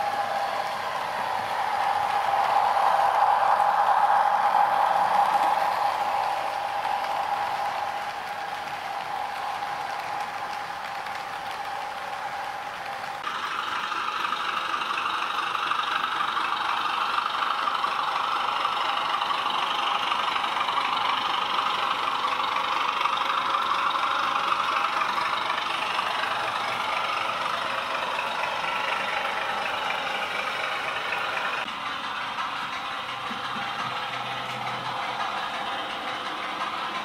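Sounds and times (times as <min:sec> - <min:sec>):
model diesel locomotive engine: 0:00.0 - 0:37.0
train running on track: 0:00.0 - 0:37.0.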